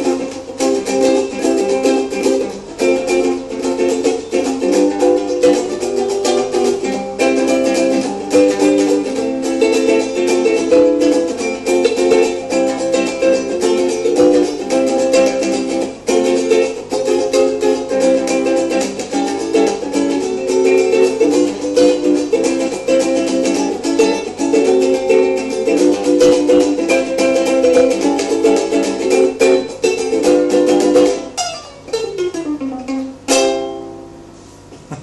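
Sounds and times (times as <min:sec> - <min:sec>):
ukulele strumming: 0:00.0 - 0:34.4.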